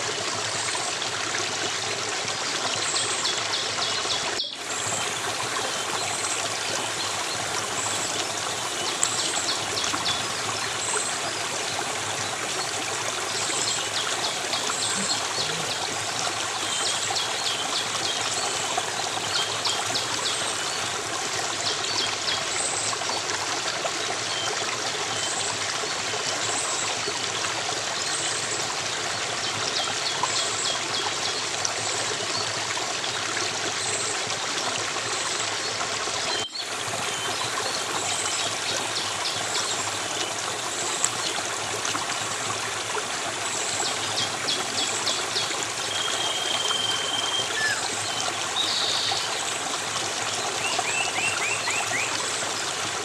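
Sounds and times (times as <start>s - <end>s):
stream of running water: 0.0s - 53.0s.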